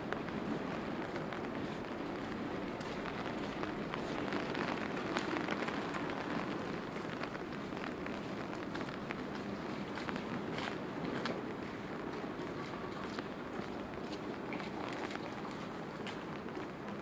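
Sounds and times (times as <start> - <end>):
footsteps on wet pavement: 0.0 - 17.0
steady rain on wet street: 0.0 - 17.0
water drips ticking: 0.0 - 17.0.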